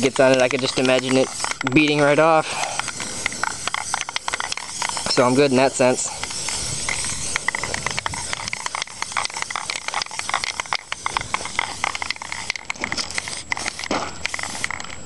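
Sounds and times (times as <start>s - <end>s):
aerosol spray can hissing: 0.0s - 14.9s.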